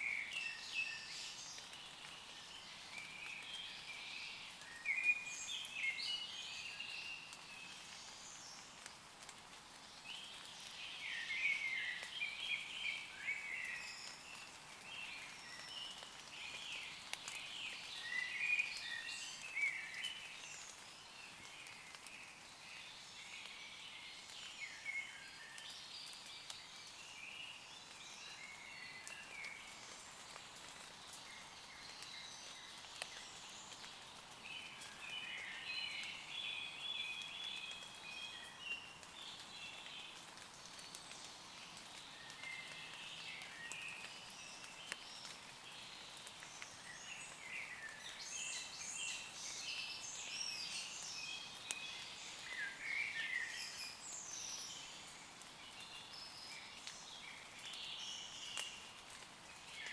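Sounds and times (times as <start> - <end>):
rain dripping on leaves: 0.0 - 59.9.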